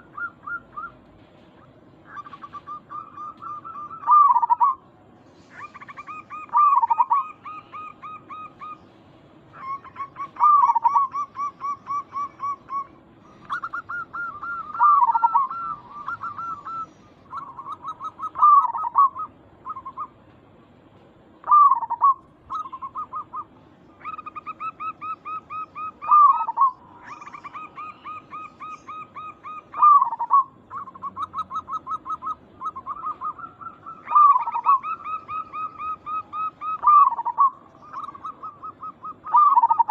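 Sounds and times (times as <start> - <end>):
dove cooing: 0.0 - 4.8, 5.4 - 20.2, 21.4 - 39.9.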